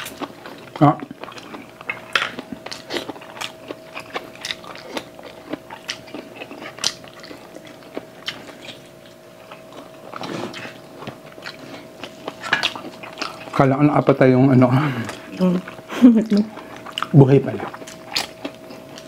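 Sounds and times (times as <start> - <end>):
chewing and lip-smacking: 0.0 - 13.6, 15.0 - 19.0
faint steady hum: 0.0 - 19.0.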